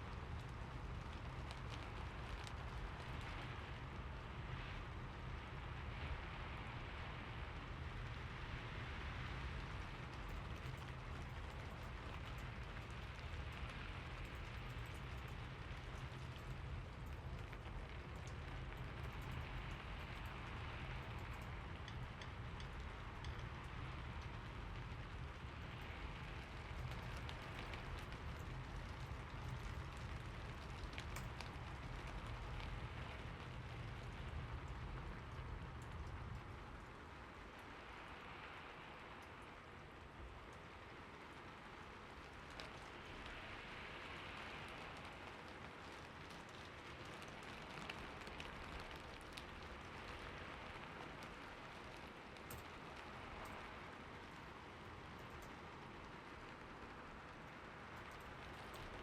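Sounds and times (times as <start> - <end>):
raindrops pattering close by: 0.0 - 59.0
steady rain falling: 0.0 - 59.0.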